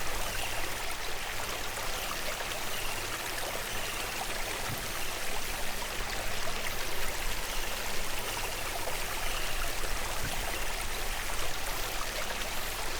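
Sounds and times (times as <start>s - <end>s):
stream water flowing: 0.0s - 12.9s.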